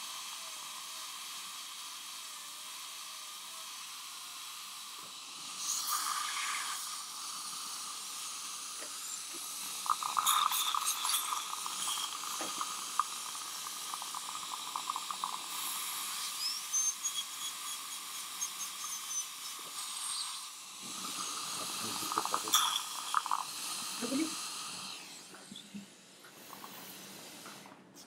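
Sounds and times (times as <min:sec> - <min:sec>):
dental water spray and suction hiss: 0:00.0 - 0:28.0.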